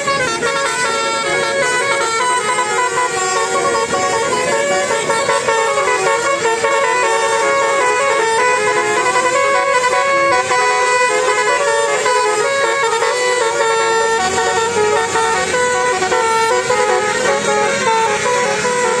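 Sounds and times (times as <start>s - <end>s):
bus musical horn playing a tune: 0.0s - 19.0s.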